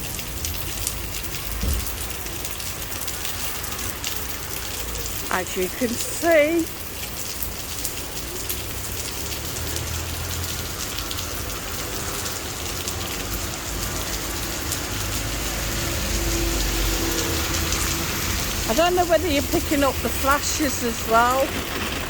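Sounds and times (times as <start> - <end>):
torrential rain splattering: 0.0 - 22.0.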